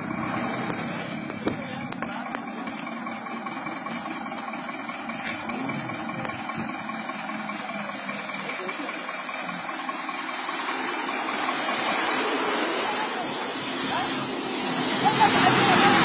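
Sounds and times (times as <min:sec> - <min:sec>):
bus engine idling: 0:00.0 - 0:16.0
faint voices: 0:00.8 - 0:16.0.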